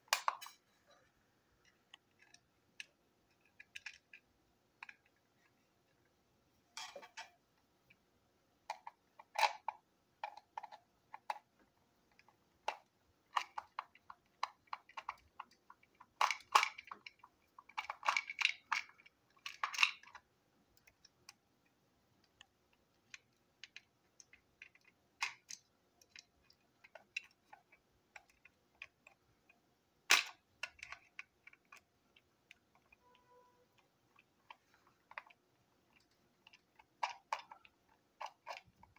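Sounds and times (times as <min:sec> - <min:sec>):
toy parts clicking and tapping: 0:00.0 - 0:00.6, 0:01.6 - 0:06.0, 0:08.7 - 0:38.9.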